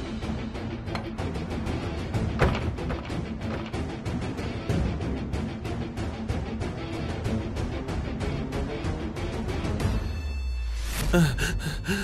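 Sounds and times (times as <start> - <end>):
dramatic background music: 0.0 - 12.0.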